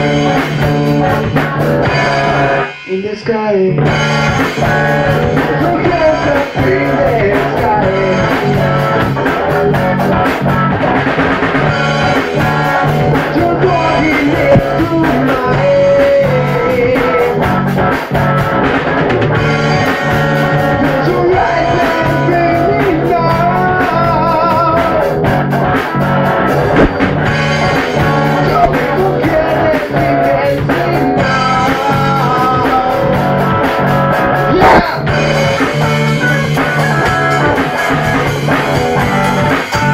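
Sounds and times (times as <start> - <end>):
drum kit beat: 0.0 - 39.9
electric guitars: 0.0 - 39.9
lead melody line: 0.0 - 39.9.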